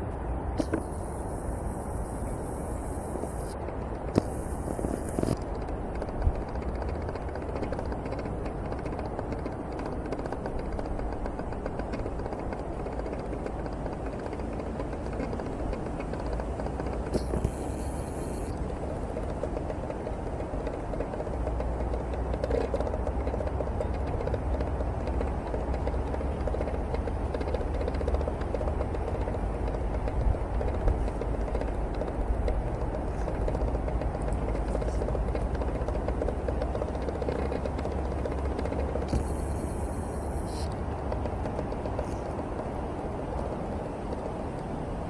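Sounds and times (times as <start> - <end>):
low rumbling background noise: 0.0 - 45.0.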